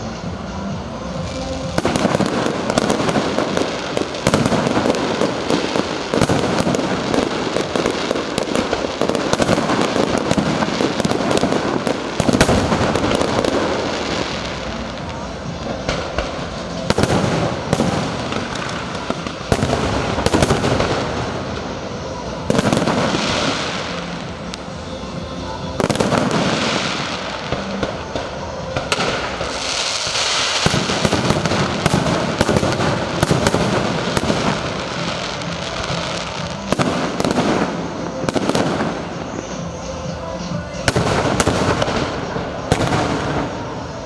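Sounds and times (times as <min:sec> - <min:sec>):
loud firework bangs: 0:01.7 - 0:24.9, 0:25.6 - 0:44.0.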